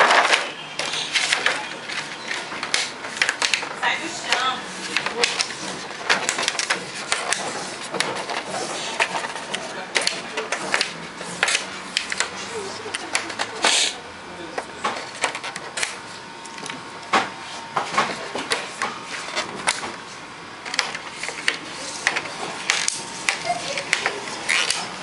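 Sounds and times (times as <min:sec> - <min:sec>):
plastic sheet crinkling and clicking: 0:00.0 - 0:13.9, 0:14.6 - 0:20.0, 0:20.6 - 0:25.0.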